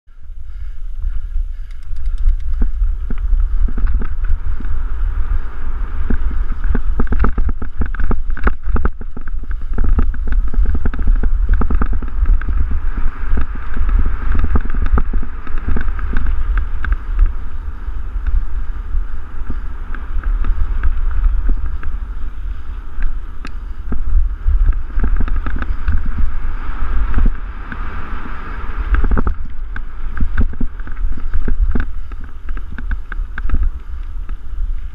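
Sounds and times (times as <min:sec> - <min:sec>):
bike rattling over bumps: 0:00.1 - 0:34.9
wind buffeting microphone: 0:00.1 - 0:34.9.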